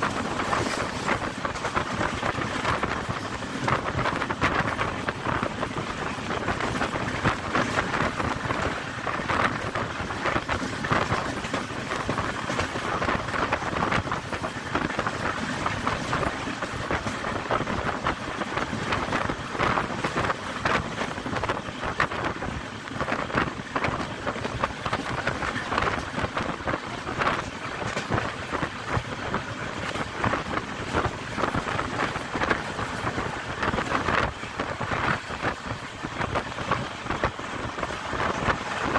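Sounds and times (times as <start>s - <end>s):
train wheels rumbling on rail: 0.0s - 38.9s
wind rushing over microphone: 0.0s - 38.9s.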